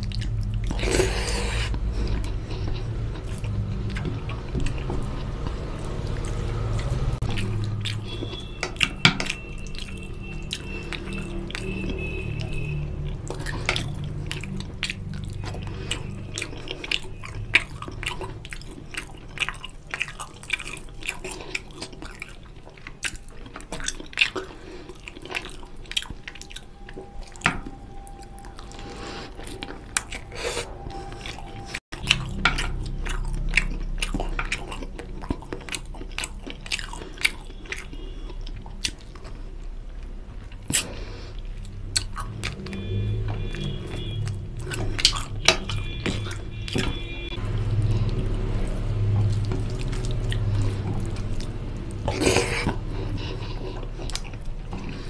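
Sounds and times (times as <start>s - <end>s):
mouth chewing: 0.0s - 55.0s.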